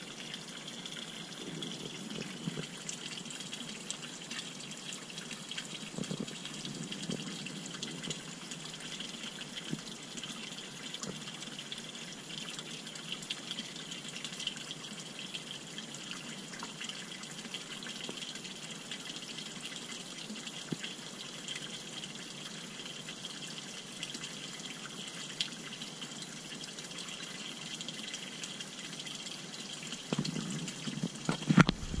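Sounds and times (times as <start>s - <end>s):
water stream splashing into pond: 0.0s - 32.0s.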